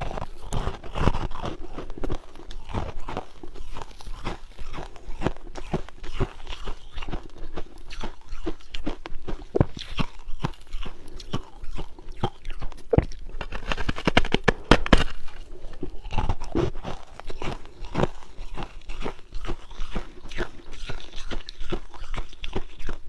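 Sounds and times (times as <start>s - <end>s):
person chewing ice: 0.0s - 23.0s.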